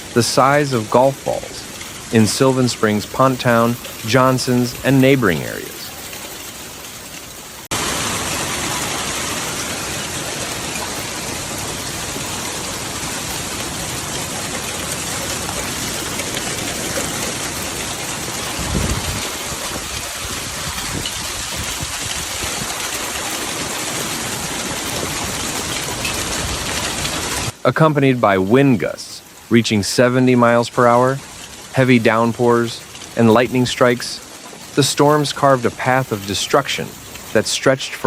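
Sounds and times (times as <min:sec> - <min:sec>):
hail and rain pelting down: 0:00.0 - 0:38.0.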